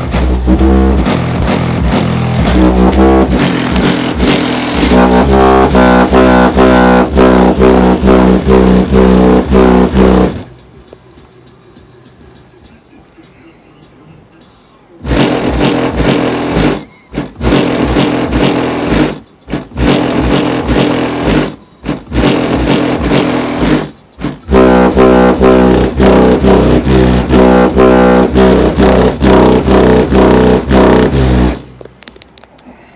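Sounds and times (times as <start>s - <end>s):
loud music with heavy bass: 0.0s - 10.8s, 15.0s - 31.8s.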